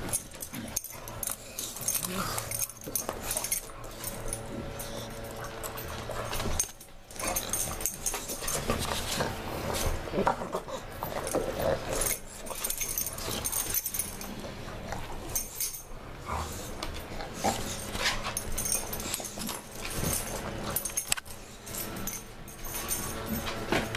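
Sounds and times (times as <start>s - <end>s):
collar jingling: 0.0s - 23.9s
dogs play-wrestling: 0.0s - 23.9s.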